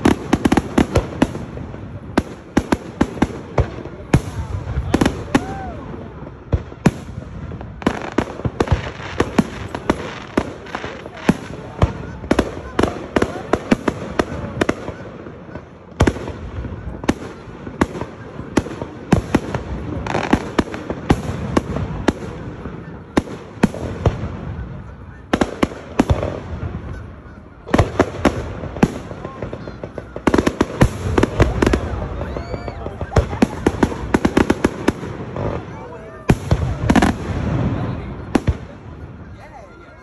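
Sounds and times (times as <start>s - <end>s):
onlookers' voices: 0.0s - 40.0s.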